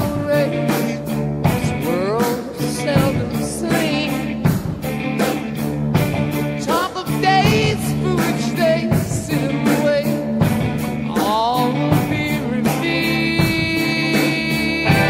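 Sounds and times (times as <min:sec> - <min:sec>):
drum beat: 0:00.0 - 0:15.0
guitar: 0:00.0 - 0:15.0
rock song with singing: 0:00.0 - 0:15.0.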